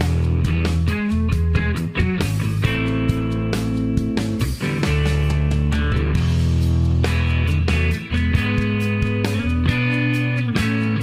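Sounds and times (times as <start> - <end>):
rock music with guitar and beat: 0.0 - 11.0.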